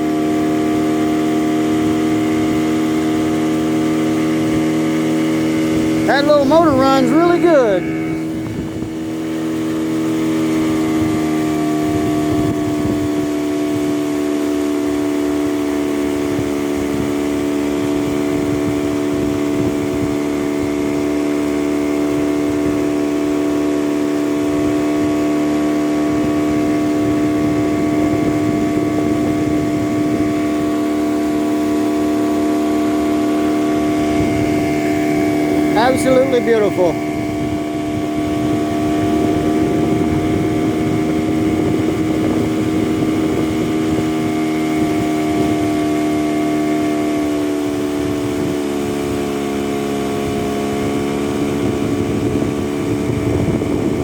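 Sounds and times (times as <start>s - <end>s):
outboard motor drone: 0.0s - 54.0s
wind and water rushing: 0.0s - 54.0s.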